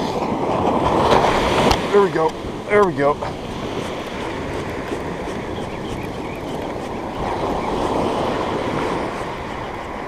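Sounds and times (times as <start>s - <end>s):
ocean surf washing up beach: 0.0s - 10.0s
wind rumbling on microphone: 0.0s - 10.0s.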